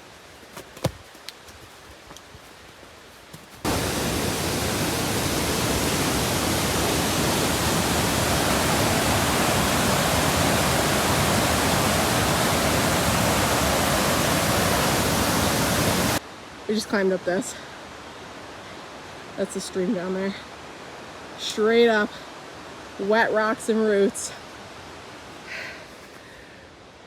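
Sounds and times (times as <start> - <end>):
stream water rushing: 3.6 - 26.0.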